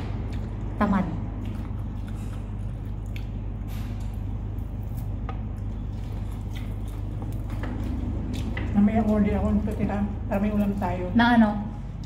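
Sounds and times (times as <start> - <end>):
soft chewing: 0.0 - 11.2
steady low hum: 0.0 - 12.0.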